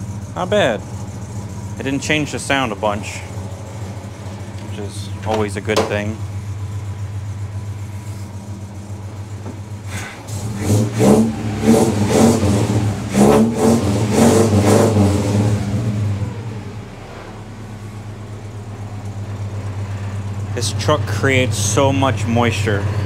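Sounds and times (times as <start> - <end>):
truck engine idling and revving: 0.0 - 23.0.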